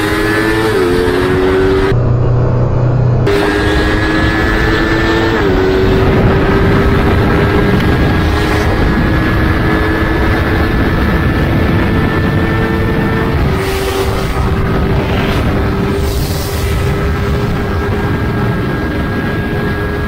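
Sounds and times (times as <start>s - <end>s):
motorcycle engine at full throttle: 0.0s - 20.0s
wind rush on microphone: 0.0s - 20.0s.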